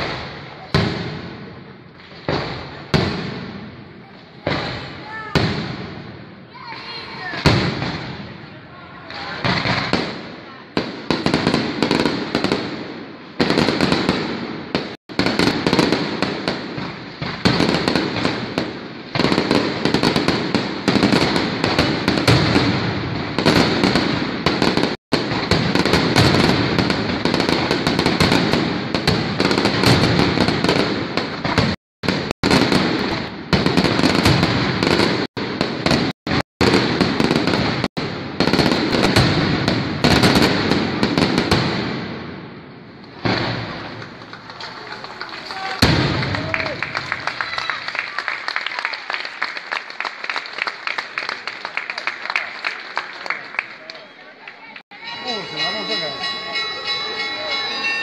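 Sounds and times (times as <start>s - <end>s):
fireworks bangs and crackling: 0.0s - 53.7s.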